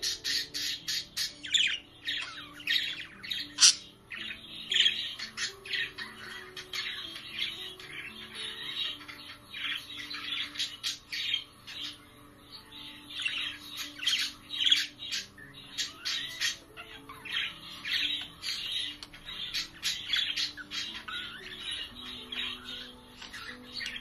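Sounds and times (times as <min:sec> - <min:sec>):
budgerigars chirping: 0:00.0 - 0:24.0.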